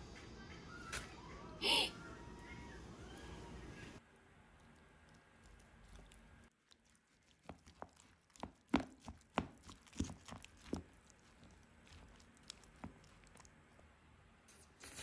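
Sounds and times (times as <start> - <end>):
soft squelches of food: 0.7 - 15.0.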